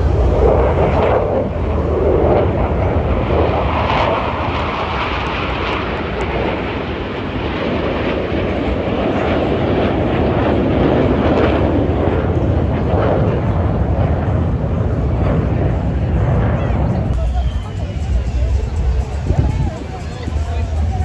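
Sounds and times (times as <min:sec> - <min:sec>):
aircraft engine roaring by: 0:00.0 - 0:21.0.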